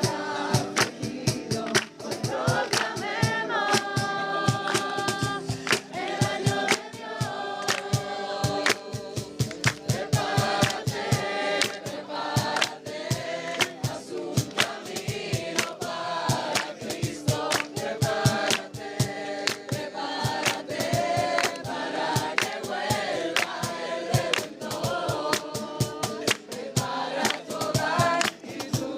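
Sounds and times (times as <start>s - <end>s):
voices singing together: 0.0s - 28.9s.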